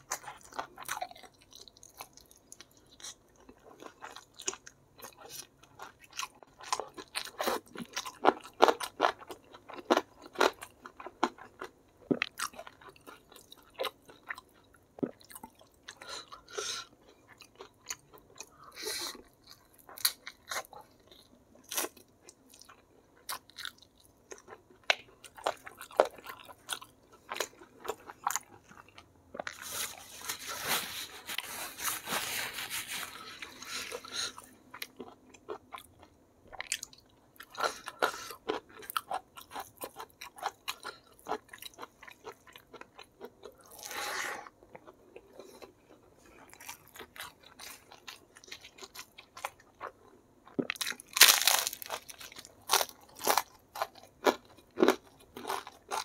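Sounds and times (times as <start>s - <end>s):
man chewing crunchy chicken: 0.0s - 56.0s.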